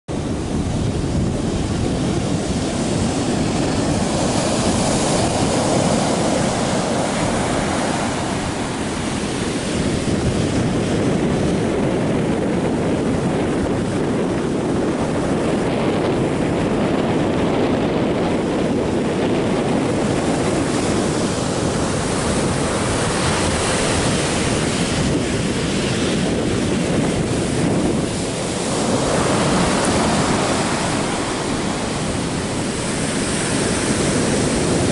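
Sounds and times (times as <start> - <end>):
surf washing up a beach: 0.1 - 34.9.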